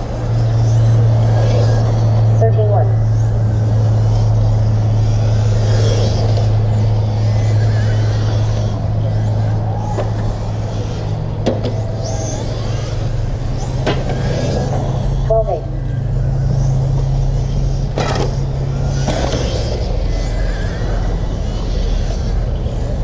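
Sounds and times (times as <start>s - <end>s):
rc car motor whine: 0.0s - 23.0s
steady low hum: 0.0s - 23.0s.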